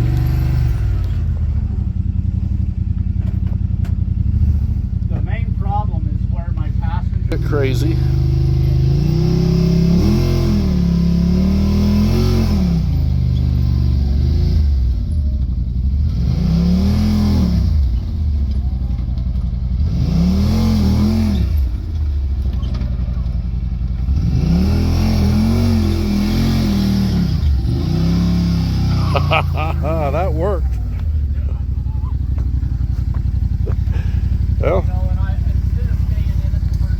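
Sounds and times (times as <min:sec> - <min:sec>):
engine revving: 0:00.0 - 0:03.4, 0:06.6 - 0:23.1, 0:23.8 - 0:36.9.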